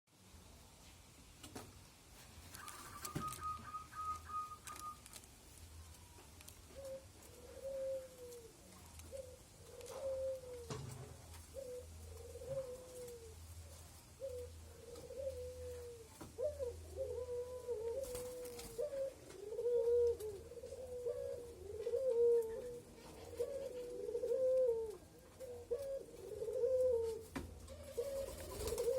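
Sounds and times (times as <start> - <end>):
doves cooing: 2.5 - 5.2, 6.6 - 28.9.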